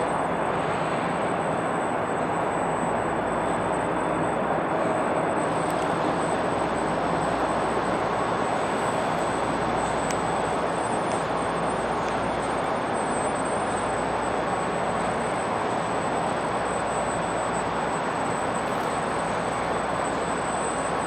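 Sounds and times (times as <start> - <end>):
distant motor traffic drone: 0.0 - 21.0
faint high whine: 0.0 - 21.0.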